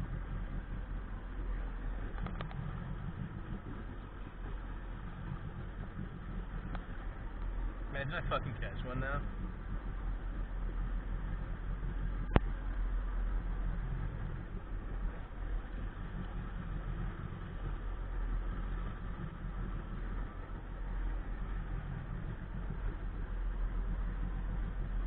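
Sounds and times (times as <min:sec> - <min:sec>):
watercraft engine idling: 0:00.0 - 0:25.0.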